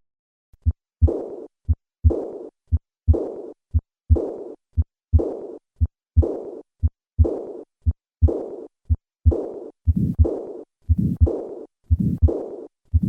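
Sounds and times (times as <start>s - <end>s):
heart sounds: 0.6s - 13.0s.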